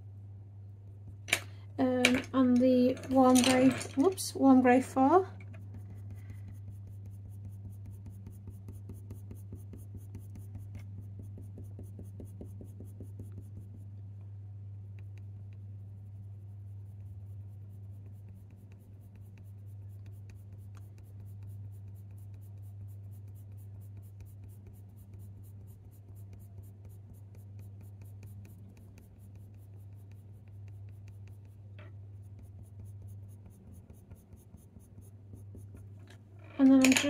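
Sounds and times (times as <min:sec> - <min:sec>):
steady low hum: 0:00.0 - 0:37.0
coloured pencil scratching on paper: 0:02.4 - 0:35.9.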